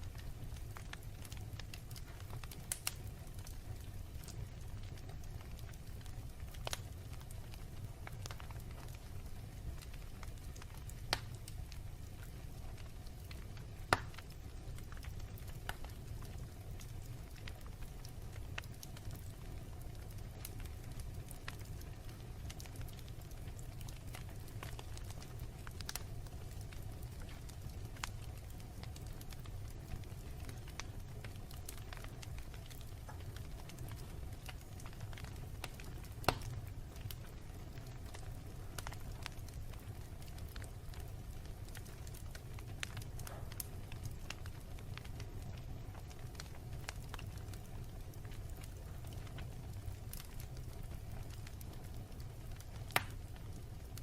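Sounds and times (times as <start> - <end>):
fire crackling: 0.0 - 54.0
fire flames rumbling: 0.0 - 54.0.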